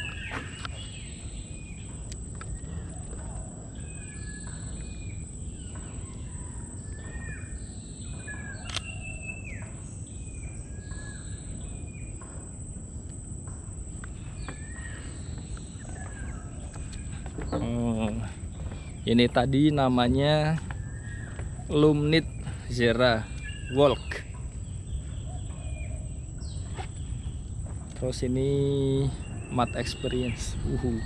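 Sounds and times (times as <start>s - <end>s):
birds whistling falling notes: 0.0s - 12.2s, 13.9s - 31.0s
high-pitched whine: 0.0s - 31.0s
steady low rumble: 0.0s - 31.0s.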